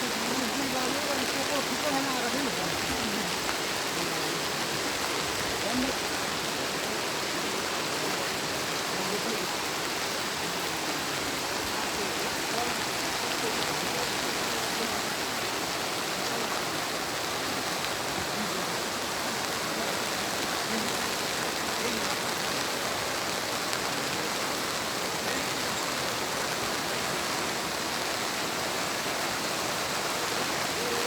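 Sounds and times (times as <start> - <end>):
flooded river rushing: 0.0 - 31.0.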